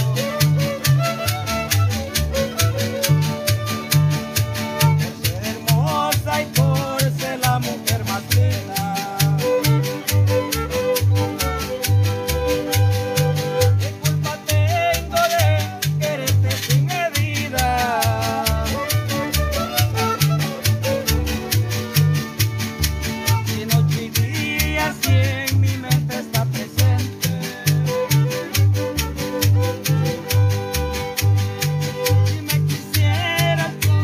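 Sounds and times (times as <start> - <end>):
violins playing melody: 0.0 - 6.1, 7.5 - 16.0, 17.3 - 25.1, 26.9 - 34.0
bass line of low notes: 0.0 - 34.0
strummed guitar: 0.0 - 34.0.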